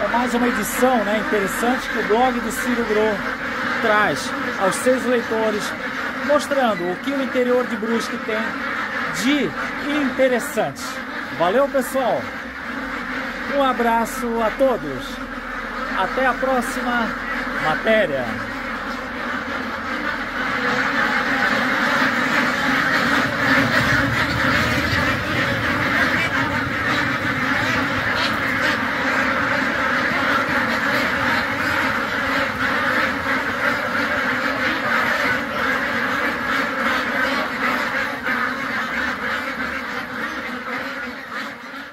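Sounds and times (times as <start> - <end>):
flock of ducks quacking: 0.0 - 41.9.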